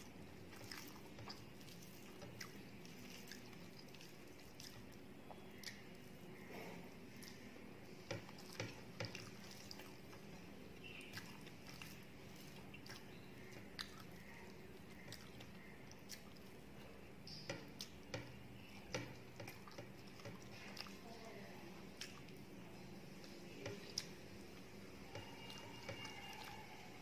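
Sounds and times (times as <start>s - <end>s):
chewing: 0.0s - 22.5s, 23.2s - 27.0s
low steady hum: 0.0s - 27.0s
wet clicks and squishes of food: 0.0s - 27.0s.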